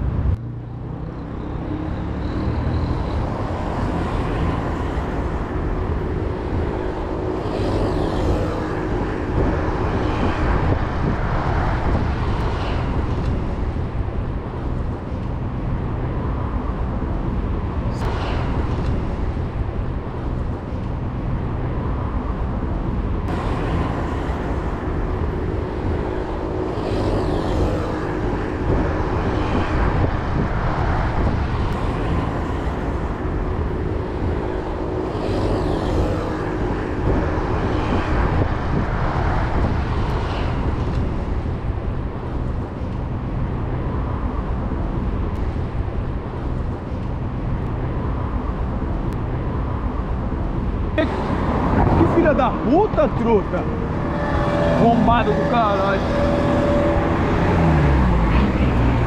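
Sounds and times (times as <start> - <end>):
cars passing nearby: 0.0 - 59.0
wind and road rumble: 0.0 - 59.0.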